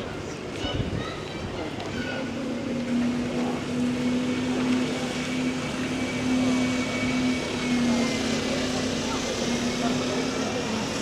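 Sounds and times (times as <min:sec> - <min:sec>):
wet street noise: 0:00.0 - 0:11.0.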